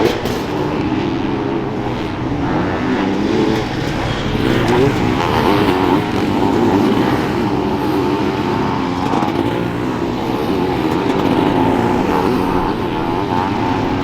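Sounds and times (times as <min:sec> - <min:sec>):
motocross engines revving: 0:00.0 - 0:14.0.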